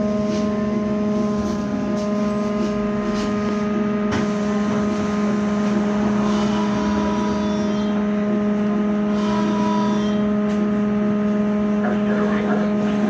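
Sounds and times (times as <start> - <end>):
road noise: 0.0 - 13.0
whine shifting in pitch: 0.0 - 13.0
electric hum: 0.7 - 13.0.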